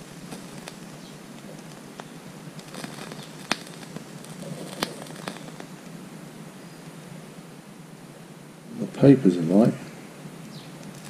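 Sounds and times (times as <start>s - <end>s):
paper burning crackles: 0.0s - 8.0s, 8.8s - 11.0s.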